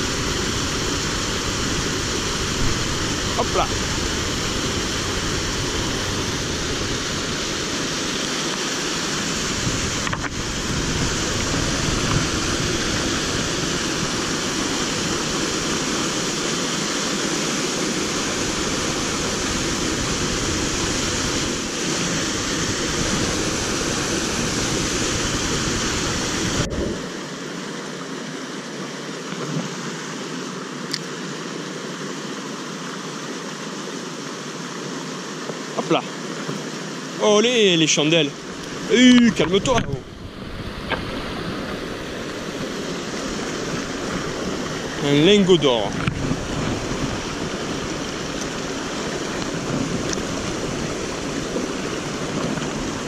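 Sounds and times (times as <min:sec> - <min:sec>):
stream pouring over rocks: 0:00.0 - 0:53.0.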